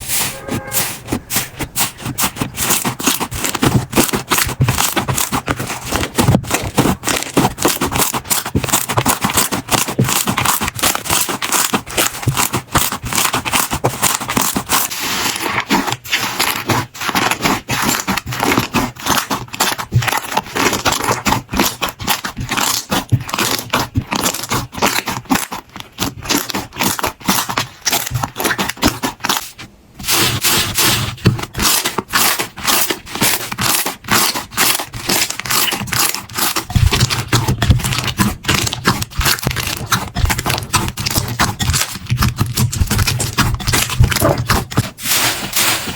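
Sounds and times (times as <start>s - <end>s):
slime squishing with crackling pops: 1.8s - 29.7s, 31.1s - 45.0s.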